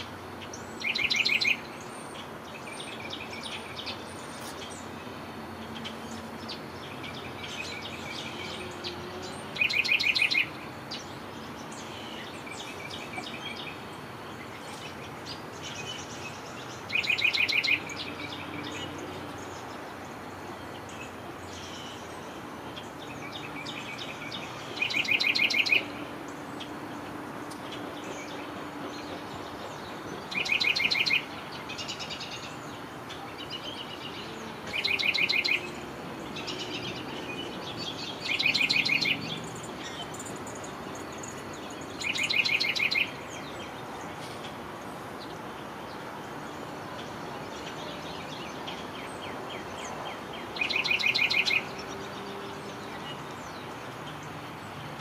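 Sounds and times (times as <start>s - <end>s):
songbird rapid trill: 0.0s - 44.6s, 46.9s - 54.8s
steady background noise: 0.0s - 55.0s.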